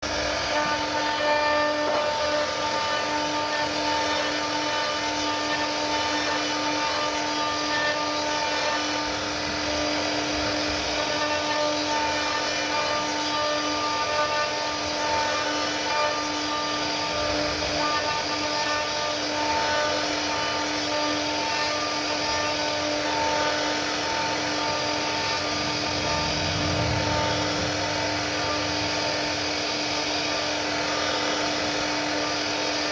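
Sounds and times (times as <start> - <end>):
router spindle whining: 0.0 - 32.9
wood cutting noise: 0.0 - 32.9.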